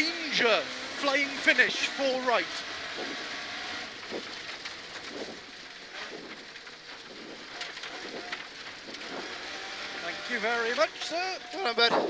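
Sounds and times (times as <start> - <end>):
tyre and road rumble: 0.0 - 12.0.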